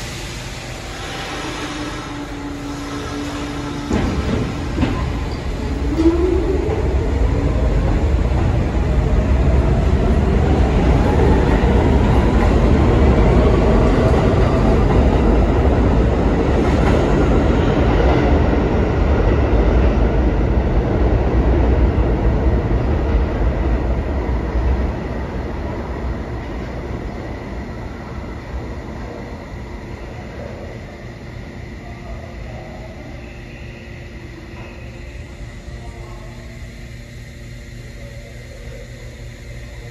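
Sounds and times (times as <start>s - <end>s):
subway train motor whine: 0.0s - 39.9s
train heavy rumble: 0.0s - 39.9s.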